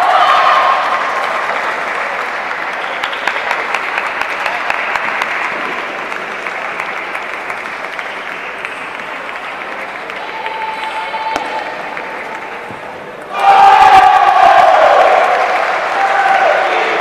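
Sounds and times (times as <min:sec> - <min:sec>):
crowd noise: 0:00.0 - 0:17.0
spectators clapping: 0:00.0 - 0:17.0.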